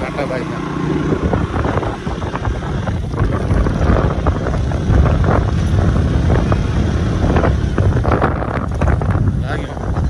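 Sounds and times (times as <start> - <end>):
motorcycle engine running: 0.0 - 10.0
road noise on dirt road: 0.0 - 10.0
wind buffeting microphone: 0.0 - 10.0.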